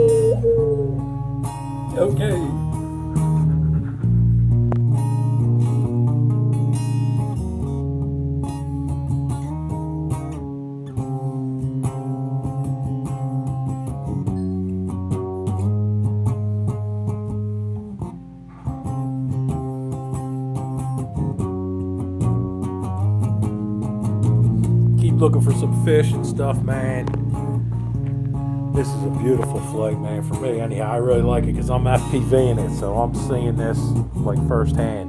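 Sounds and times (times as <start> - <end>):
plucked and strummed guitar: 0.0 - 35.0
steady bass line: 0.0 - 35.0.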